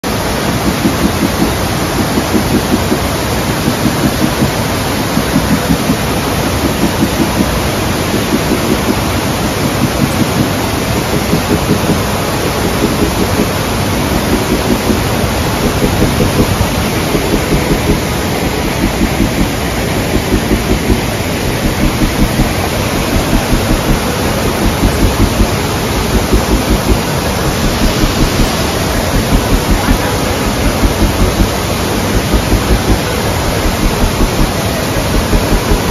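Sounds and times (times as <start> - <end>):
waterfall rushing onto boulders: 0.0 - 35.9.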